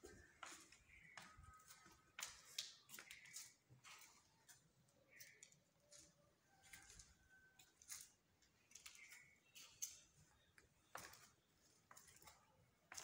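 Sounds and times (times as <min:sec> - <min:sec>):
footsteps on marble stairs: 0:00.0 - 0:04.6, 0:05.4 - 0:13.0.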